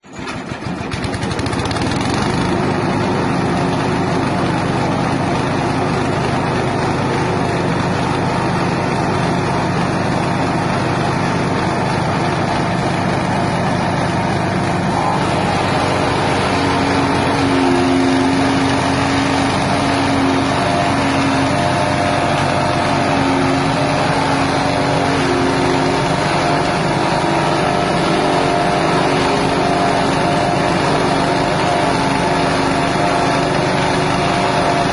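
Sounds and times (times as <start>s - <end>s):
petrol engine running: 0.0s - 34.9s.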